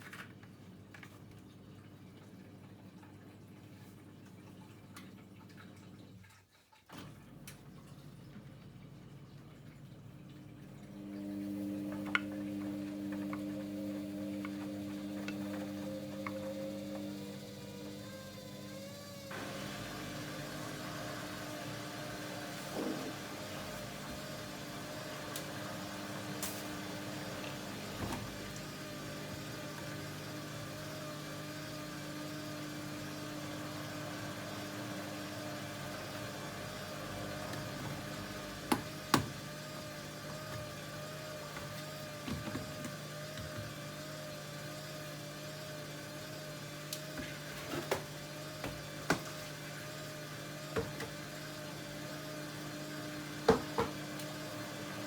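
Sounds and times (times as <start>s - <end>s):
washing machine motor hum: 0.0s - 55.0s.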